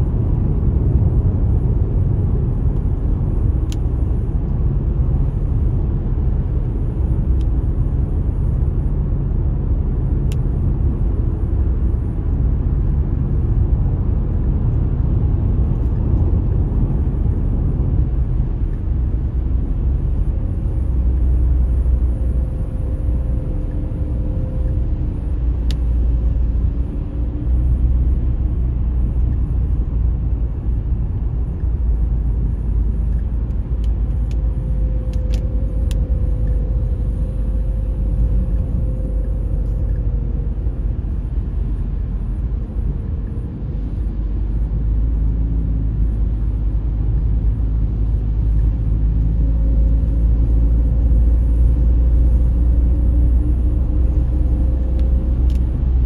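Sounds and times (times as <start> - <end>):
car cabin driving rumble: 0.0 - 56.0.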